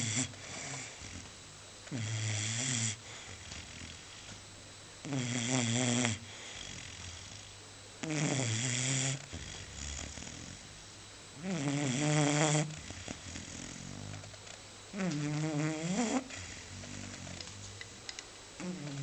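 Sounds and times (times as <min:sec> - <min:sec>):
pet snoring: 0:00.0 - 0:04.4, 0:05.0 - 0:19.0.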